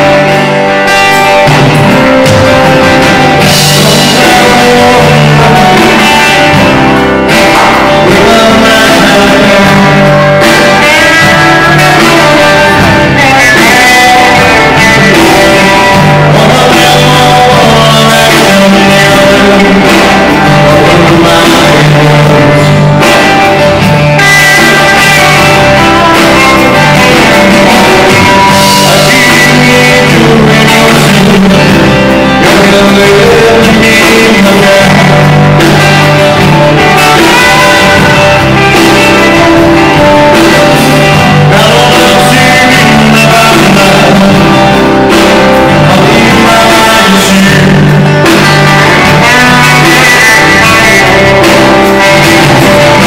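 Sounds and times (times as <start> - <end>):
rock band playing loudly: 0.0 - 53.0
person singing lead: 2.0 - 53.0.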